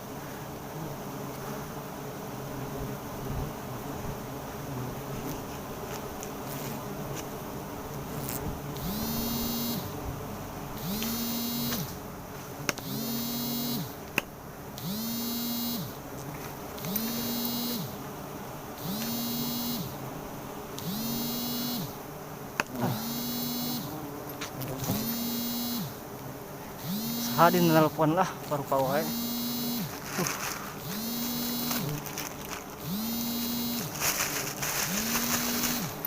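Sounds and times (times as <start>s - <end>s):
bees buzzing: 0.0s - 36.0s.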